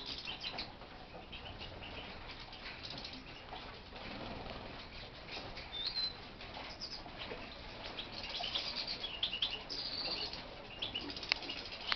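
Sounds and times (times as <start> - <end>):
finches chirping: 0.0 - 11.9.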